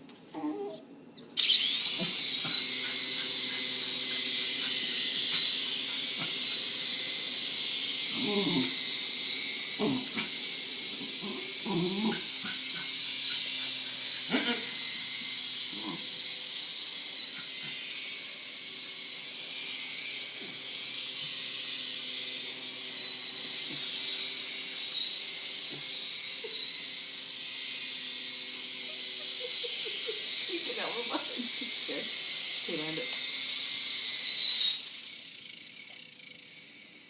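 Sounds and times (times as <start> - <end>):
small electric motor whining: 0.0 - 37.0.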